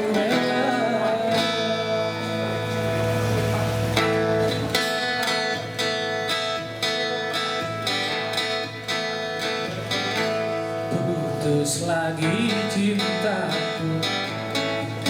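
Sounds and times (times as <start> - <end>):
strummed guitar chords: 0.0 - 15.0.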